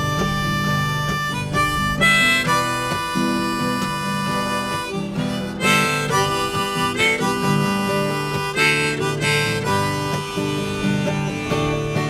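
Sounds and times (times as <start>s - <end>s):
harmonica melody: 0.0s - 12.0s
strummed acoustic guitar: 0.0s - 12.0s.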